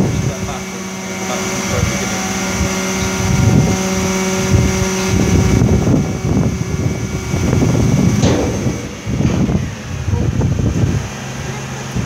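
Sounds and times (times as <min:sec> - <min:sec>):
wind rumbling on microphone: 0:00.0 - 0:00.6, 0:01.7 - 0:12.0
refuse truck engine and hydraulics: 0:00.0 - 0:12.0.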